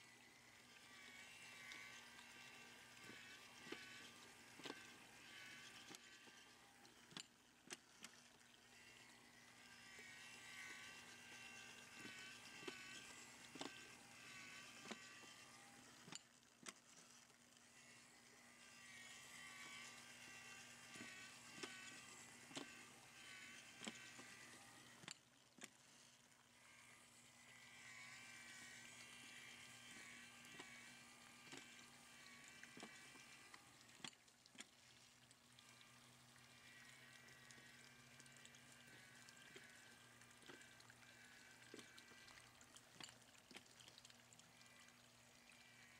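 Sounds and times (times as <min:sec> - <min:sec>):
small electric motors buzzing: 0:00.0 - 0:45.9.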